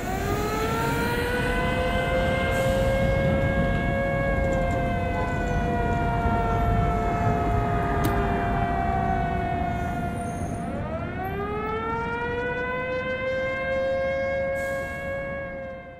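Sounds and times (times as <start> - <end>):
air-defence sirens wailing: 0.0 - 15.9.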